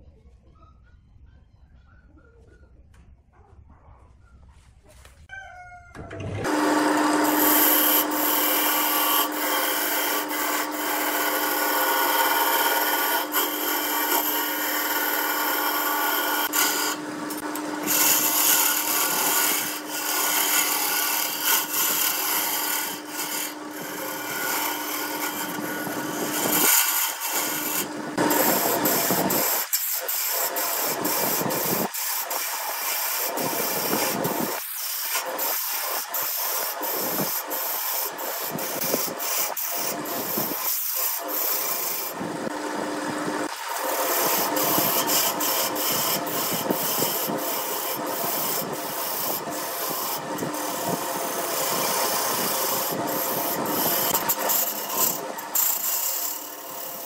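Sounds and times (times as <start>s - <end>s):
wood lathe humming: 6.2s - 57.0s
turning tool scraping wood: 6.3s - 57.0s.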